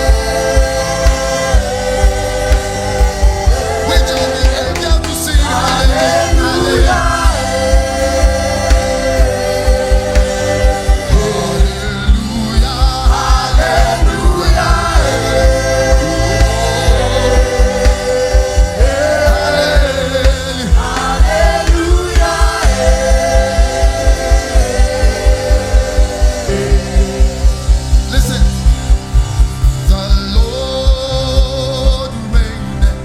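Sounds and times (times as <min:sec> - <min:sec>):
fast low beat: 0:00.0 - 0:32.1
gospel voices singing: 0:00.0 - 0:33.0.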